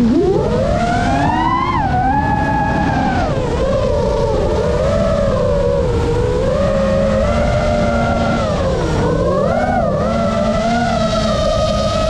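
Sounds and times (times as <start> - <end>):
drone motors whining: 0.0 - 12.0
wind rushing: 0.0 - 12.0.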